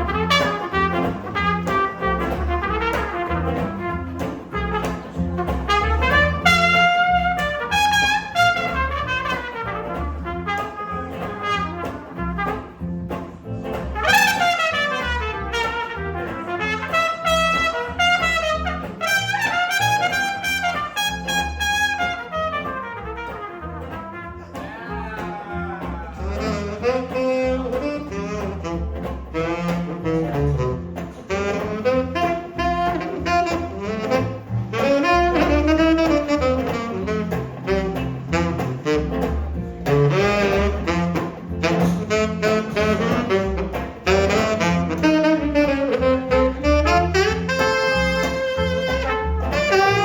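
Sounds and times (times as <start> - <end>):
horn melodic solo: 0.0 - 12.7, 14.0 - 24.5, 26.2 - 30.7, 31.3 - 39.2, 39.9 - 50.0
jazz rhythm section: 0.0 - 50.0
walking double bass: 0.0 - 50.0.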